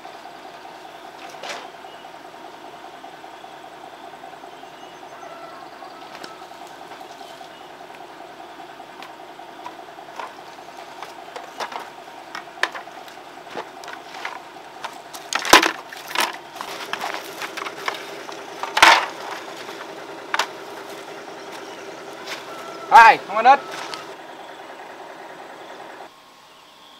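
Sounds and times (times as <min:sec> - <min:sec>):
small engine running: 0:00.0 - 0:26.9.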